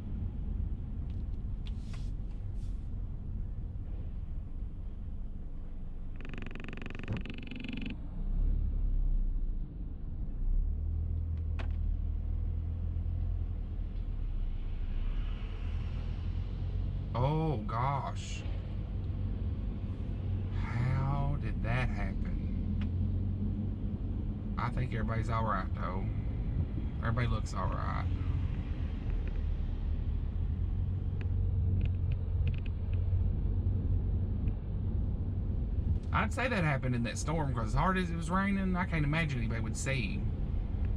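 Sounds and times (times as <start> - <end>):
car driving rumble inside cabin: 0.0 - 40.9.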